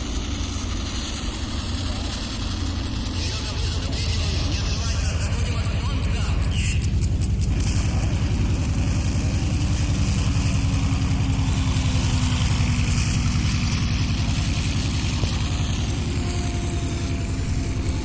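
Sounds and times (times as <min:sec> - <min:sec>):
model aircraft engine running: 0:00.0 - 0:18.0.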